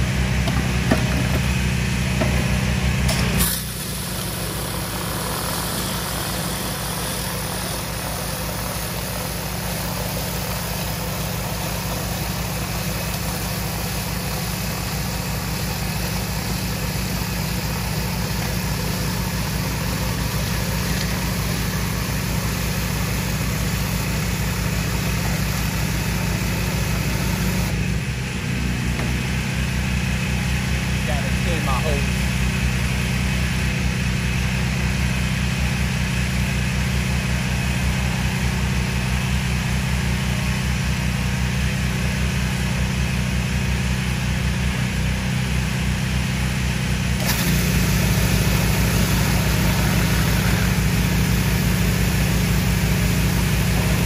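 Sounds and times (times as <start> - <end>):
high-pressure water spraying: 0.0 - 28.0, 29.0 - 54.0
gas engine running: 0.0 - 54.0.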